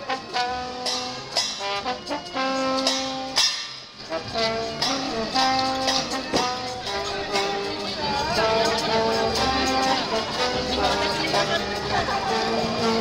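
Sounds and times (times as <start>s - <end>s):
marching drum and cymbal: 0.0s - 13.0s
trombone playing a lively tune: 0.0s - 13.0s.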